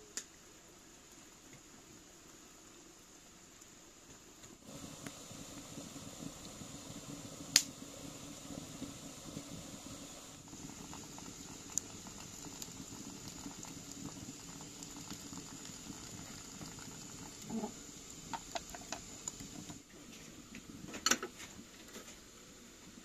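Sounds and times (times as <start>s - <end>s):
wood fire crackling: 3.5s - 23.0s.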